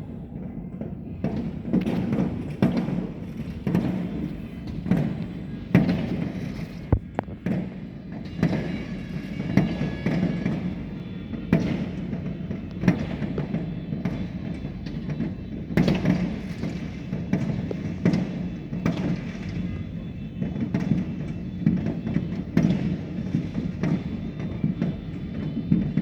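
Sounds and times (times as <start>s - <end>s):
fireworks banging: 0.0s - 26.0s.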